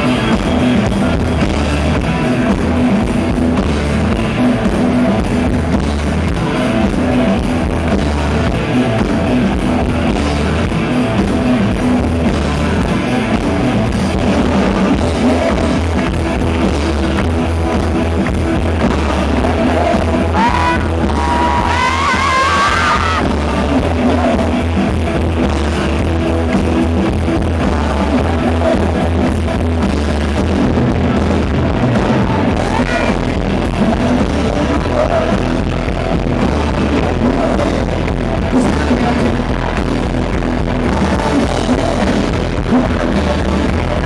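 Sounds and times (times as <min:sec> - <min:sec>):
rock band playing live: 0:00.0 - 0:44.0.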